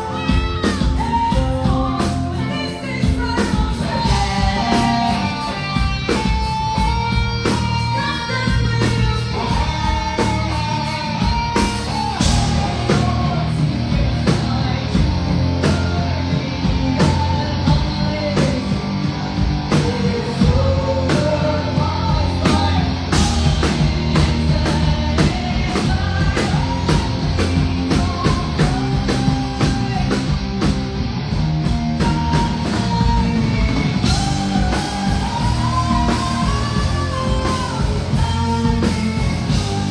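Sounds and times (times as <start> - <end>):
woman singing: 0.0 - 18.8, 19.7 - 30.4, 32.0 - 39.9
bass guitar: 0.0 - 39.9
distorted electric guitars: 0.0 - 39.9
drum kit beating: 0.0 - 39.9.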